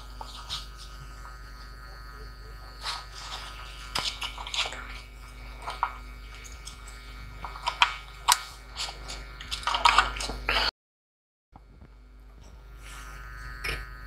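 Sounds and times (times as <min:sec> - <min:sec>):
steady low hum: 0:00.0 - 0:10.7, 0:11.6 - 0:14.0.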